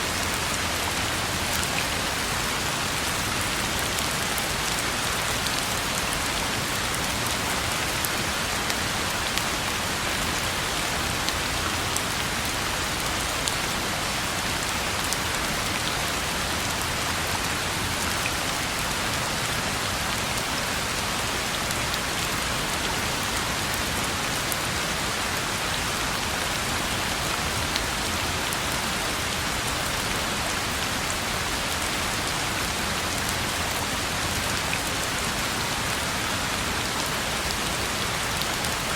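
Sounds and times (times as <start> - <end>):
rain falling on a road: 0.0 - 38.9.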